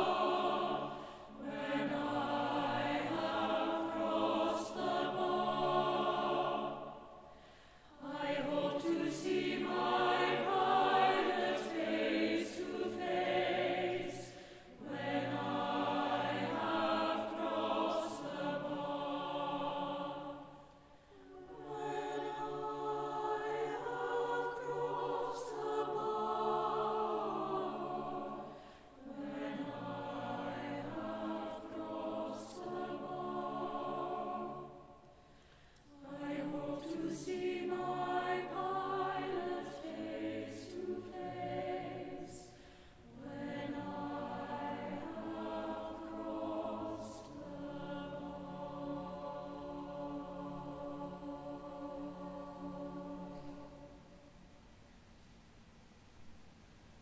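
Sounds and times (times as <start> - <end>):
mixed choir singing: 0.0 - 54.4.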